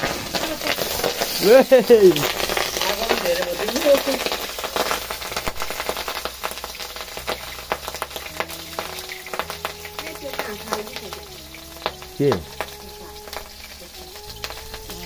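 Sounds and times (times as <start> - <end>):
oil crackling in a frying pan: 0.0 - 15.0.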